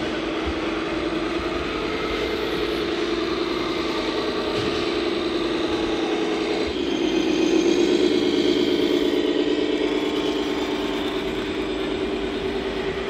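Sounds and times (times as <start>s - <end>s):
simulated diesel truck engine: 0.0s - 13.0s.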